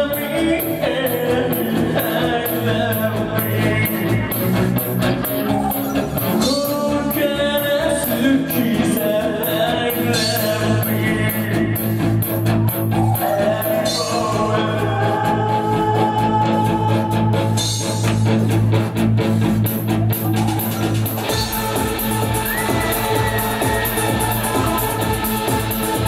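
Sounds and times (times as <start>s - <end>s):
rock band playing: 0.0s - 15.0s, 16.4s - 26.0s
person singing: 0.0s - 18.0s, 20.1s - 26.0s.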